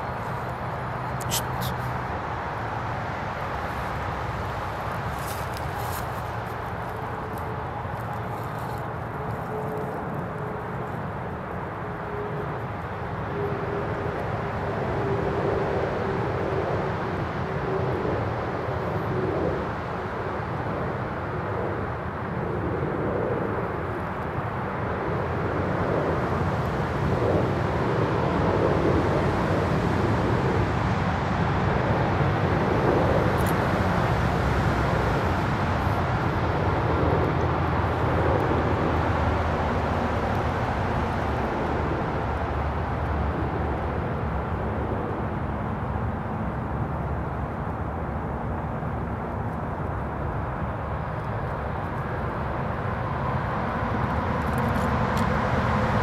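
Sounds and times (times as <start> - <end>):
distant traffic rumble: 0.0 - 56.0.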